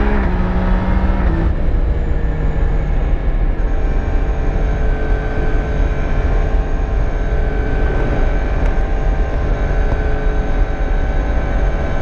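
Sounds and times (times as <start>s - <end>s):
motorcycle engine cruising: 0.0s - 12.0s
wind rush on microphone: 0.0s - 12.0s.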